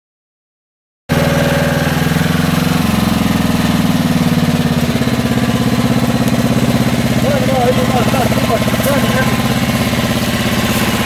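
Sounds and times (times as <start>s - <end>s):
vehicle engine running: 1.1s - 11.0s.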